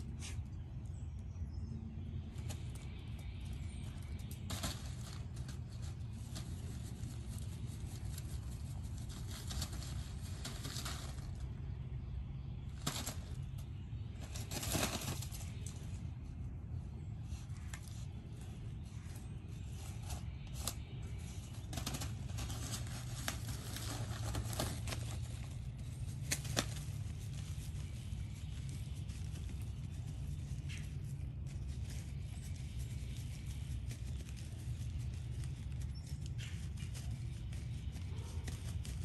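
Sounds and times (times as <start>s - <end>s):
puppy digging in pine needles: 0.0s - 39.0s.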